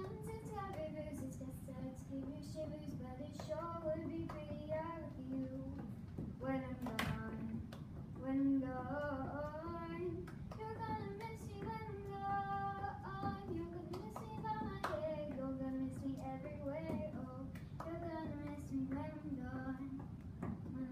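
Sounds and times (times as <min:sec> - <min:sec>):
girl singing: 0:00.0 - 0:20.9
hand claps: 0:02.2 - 0:08.2, 0:09.0 - 0:20.9.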